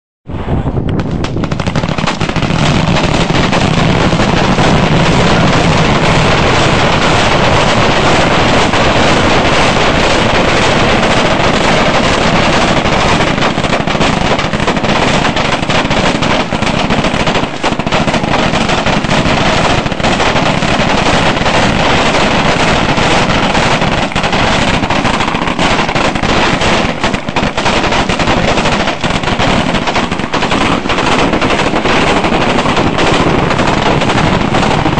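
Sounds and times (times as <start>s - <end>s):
massed rifle gunfire: 1.0s - 34.9s.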